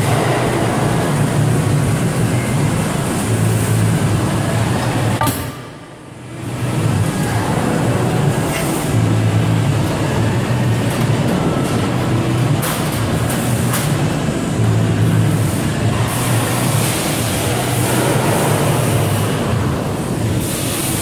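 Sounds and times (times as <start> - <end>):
shop machinery drone: 0.0 - 21.0.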